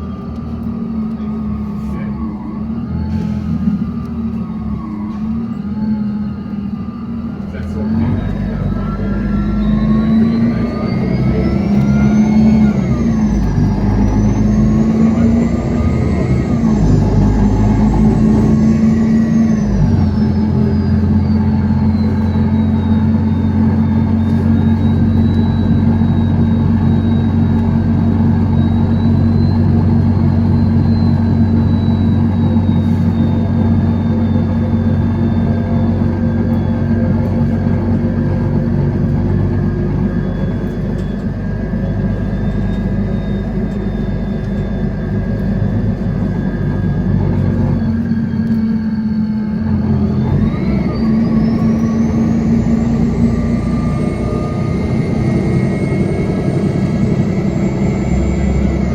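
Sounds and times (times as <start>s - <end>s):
bus engine droning: 0.0s - 58.9s.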